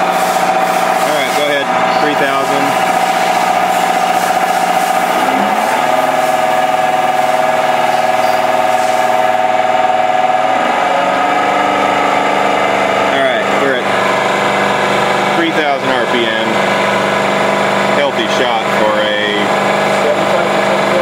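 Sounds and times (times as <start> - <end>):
fuel pump mechanical whine: 0.0 - 21.0.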